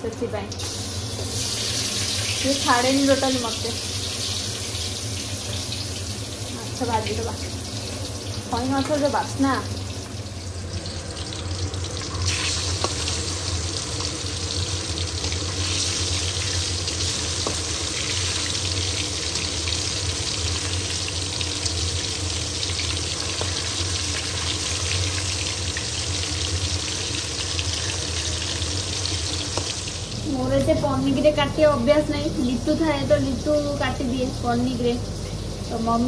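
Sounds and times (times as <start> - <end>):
fish frying in oil: 0.5 - 31.4.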